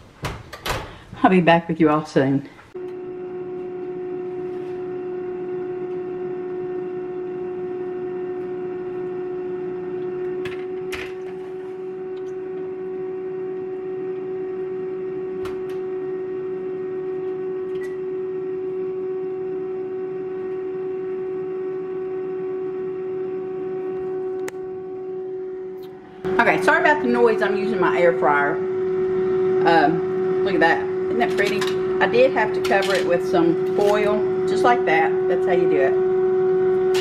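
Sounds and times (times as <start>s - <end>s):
air fryer humming: 0.0s - 37.0s.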